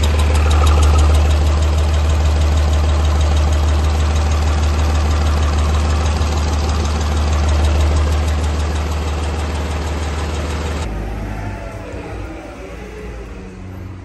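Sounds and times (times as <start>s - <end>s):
diesel engine idling: 0.0s - 14.0s
low rumble: 0.0s - 14.0s.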